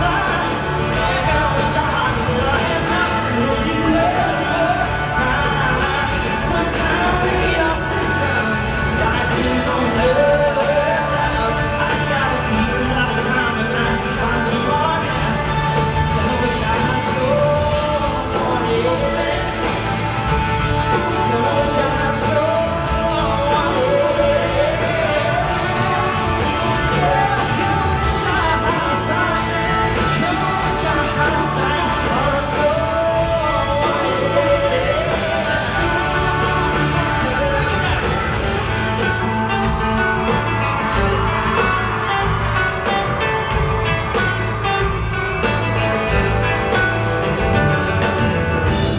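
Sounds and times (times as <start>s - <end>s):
full band playing country pop: 0.0s - 48.9s
man singing: 0.0s - 48.9s
steady drum beat: 0.0s - 48.9s
strummed acoustic guitar: 0.0s - 48.9s.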